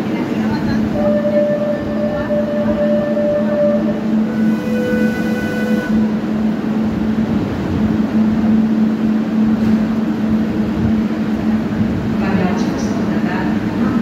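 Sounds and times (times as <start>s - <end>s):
train humming: 0.0s - 14.0s.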